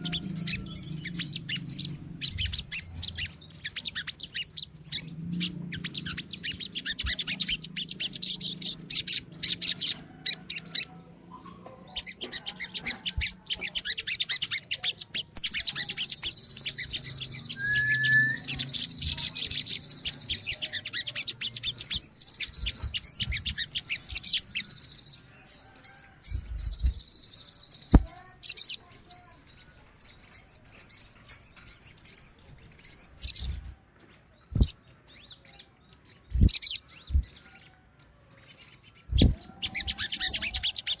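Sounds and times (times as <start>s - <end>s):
birds chattering: 0.0s - 41.0s
high bird trill: 0.0s - 41.0s.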